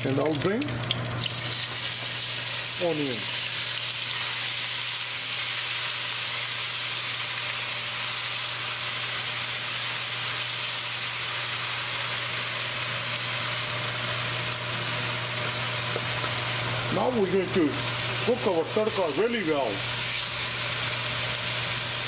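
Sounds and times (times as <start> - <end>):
food frying in hot oil: 0.0 - 22.0.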